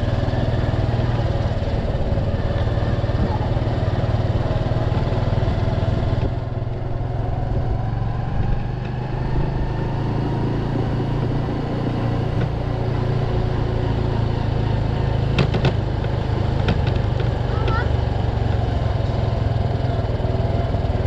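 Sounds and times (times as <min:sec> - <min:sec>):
wind noise from riding: 0:00.0 - 0:17.5
motorcycle engine running: 0:00.0 - 0:21.0.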